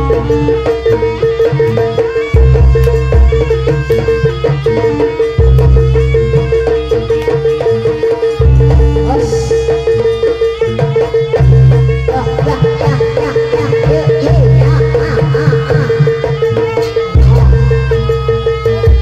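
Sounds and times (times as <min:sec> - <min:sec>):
traditional ensemble music: 0:00.0 - 0:19.0.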